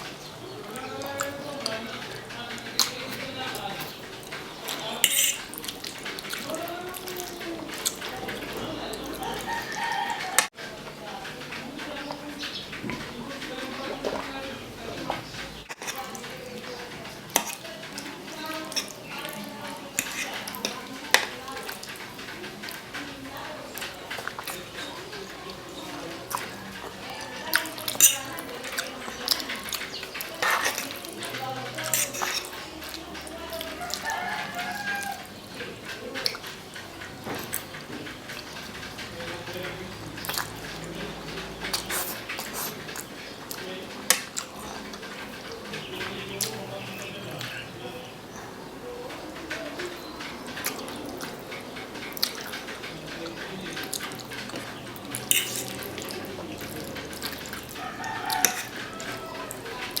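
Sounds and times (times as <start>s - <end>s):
wet chewing: 0.0s - 60.0s.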